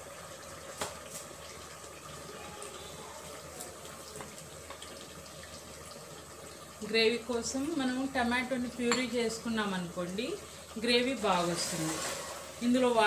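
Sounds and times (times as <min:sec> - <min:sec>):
gravy simmering and sizzling: 0:00.0 - 0:13.0.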